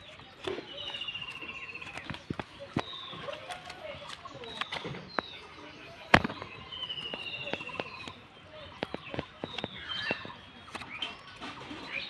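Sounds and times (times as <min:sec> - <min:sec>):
sharp clicks: 0:00.0 - 0:11.4
birds trilling and chirping: 0:00.0 - 0:12.0.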